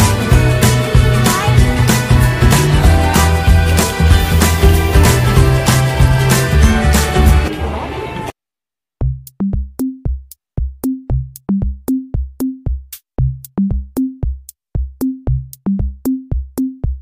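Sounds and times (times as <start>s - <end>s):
bouncy bass line: 0.0s - 7.5s, 9.0s - 17.0s
electronic music with drum-machine beat: 0.0s - 7.5s, 9.0s - 17.0s.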